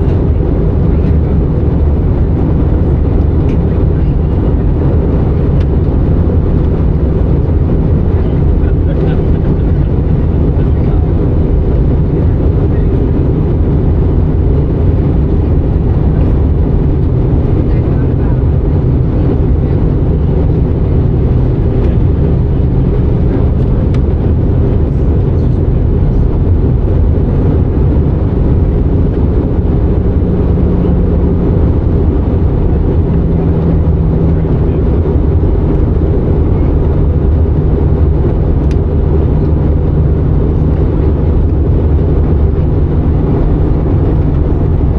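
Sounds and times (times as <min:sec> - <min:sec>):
aircraft engines and airflow rumble: 0:00.0 - 0:44.9.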